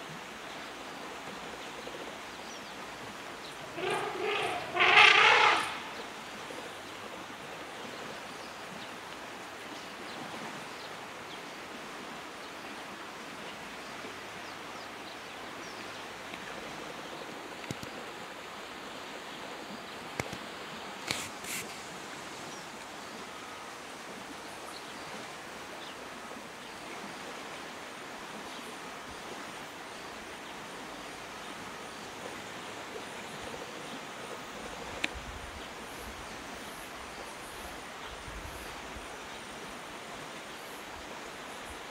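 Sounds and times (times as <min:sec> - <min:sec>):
outdoor background hiss: 0:00.0 - 0:41.9.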